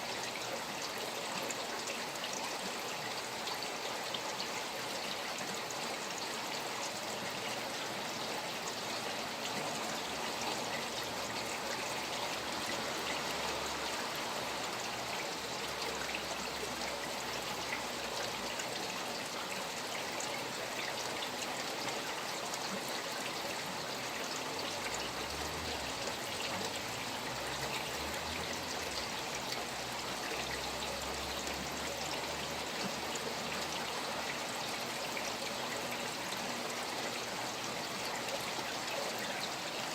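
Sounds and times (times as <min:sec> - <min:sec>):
stream flowing: 0:00.0 - 0:39.9
rain falling: 0:05.7 - 0:39.9.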